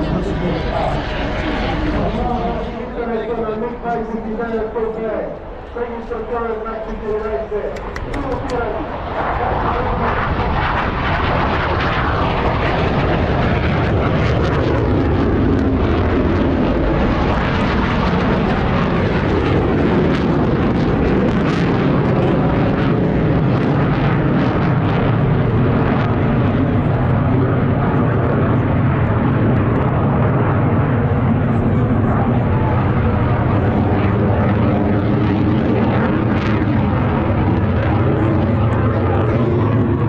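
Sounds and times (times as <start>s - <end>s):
military jet flying over: 0.0s - 40.0s.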